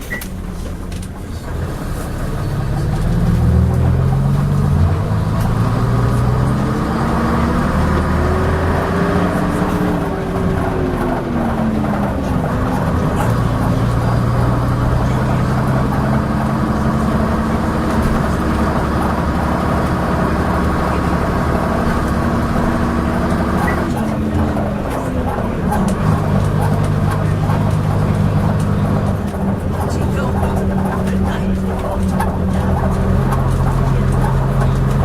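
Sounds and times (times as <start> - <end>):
bus diesel engine under load: 0.0 - 35.0
bus rattling and clanking: 0.0 - 35.0.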